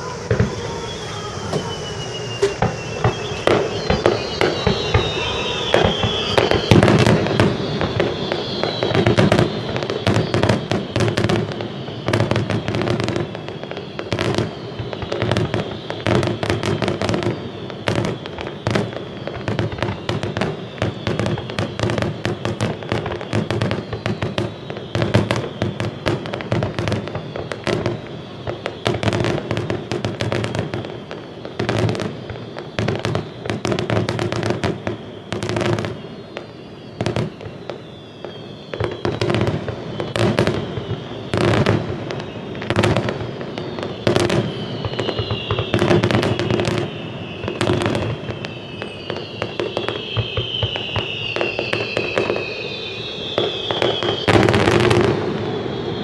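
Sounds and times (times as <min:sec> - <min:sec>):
falling firework whistles: 0:00.0 - 0:56.0
fireworks popping and crackling: 0:00.0 - 0:56.0.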